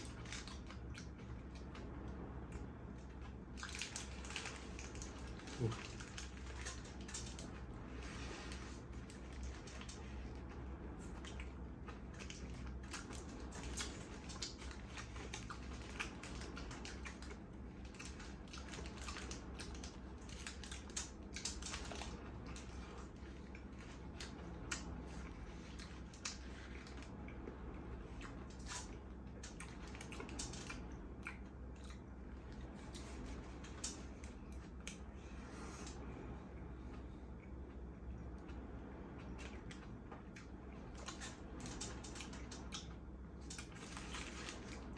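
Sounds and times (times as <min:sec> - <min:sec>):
wet chewing and crunching: 0:00.0 - 0:35.9, 0:36.9 - 0:44.9
steady low hum: 0:00.0 - 0:44.9.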